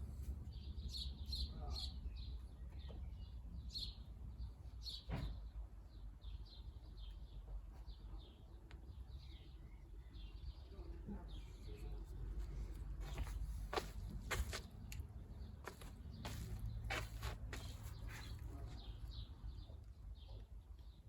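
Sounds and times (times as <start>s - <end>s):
birds chirping faintly: 0.0s - 21.0s.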